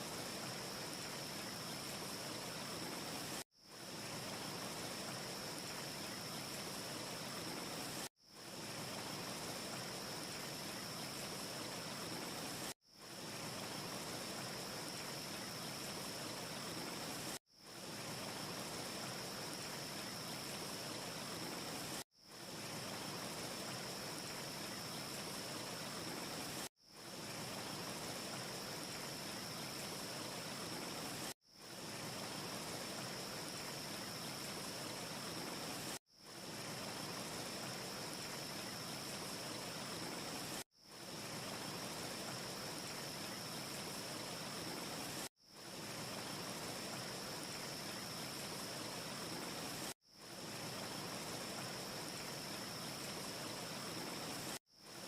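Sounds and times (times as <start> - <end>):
faint high hiss: 0.0 - 55.0.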